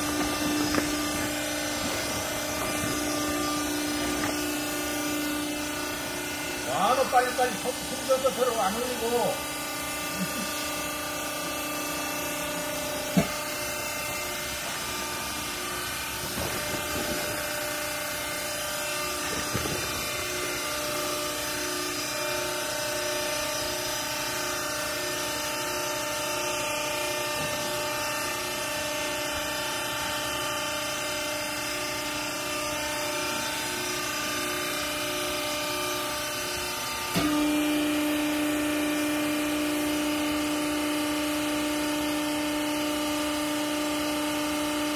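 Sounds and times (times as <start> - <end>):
motor and pump hum: 0.0 - 44.9.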